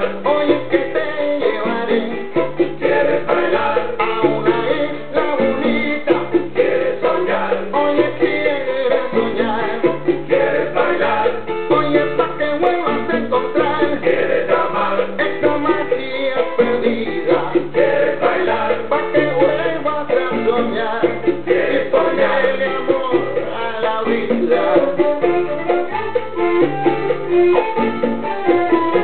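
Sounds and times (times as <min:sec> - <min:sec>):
background music with bass line: 0:00.0 - 0:29.0.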